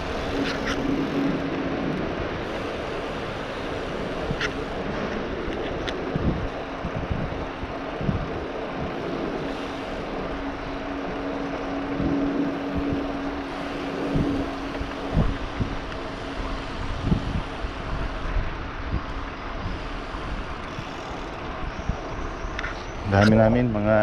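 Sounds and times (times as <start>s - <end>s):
road noise: 0.0s - 24.0s
steady hum: 0.0s - 24.0s
wind buffeting microphone: 0.0s - 24.0s.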